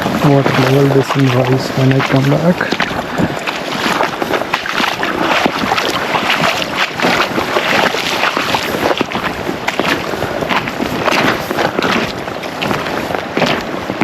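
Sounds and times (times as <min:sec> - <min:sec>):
river water rushing and splashing: 0:00.0 - 0:14.0.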